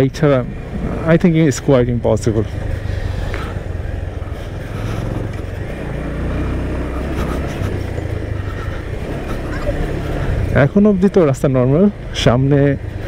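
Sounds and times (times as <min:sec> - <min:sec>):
off-road motorcycle engine: 0:00.0 - 0:13.0.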